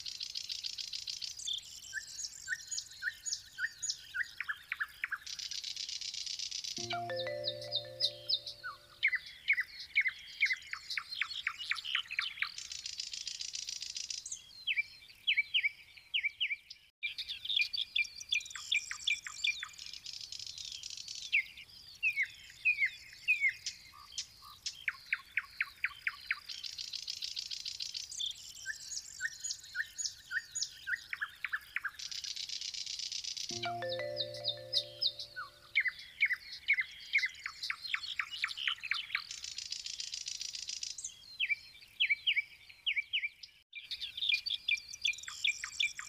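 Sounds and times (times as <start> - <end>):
songbirds singing: 0.1 - 13.0, 14.2 - 46.0.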